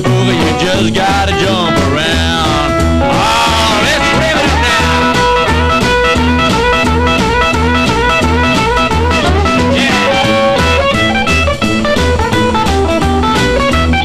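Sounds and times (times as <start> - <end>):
bass: 0.0 - 14.0
drum kit beat: 0.0 - 14.0
electric guitar solo: 0.0 - 14.0.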